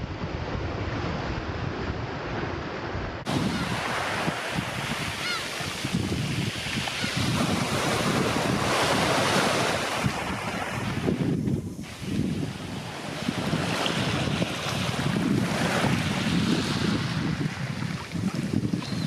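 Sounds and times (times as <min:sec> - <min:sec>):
sea waves on shore: 0:00.0 - 0:19.0
wind buffeting microphone: 0:00.0 - 0:19.0.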